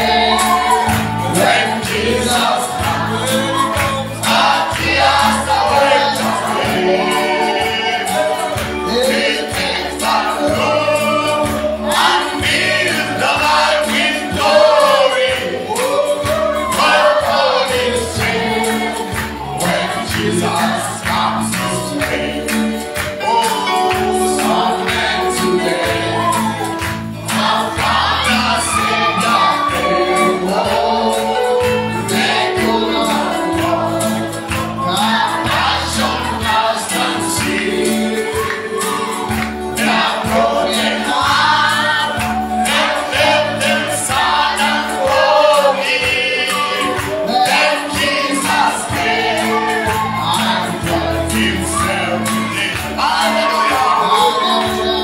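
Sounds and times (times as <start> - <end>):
group singing gospel: 0.0 - 55.0
steady percussion: 0.0 - 55.0.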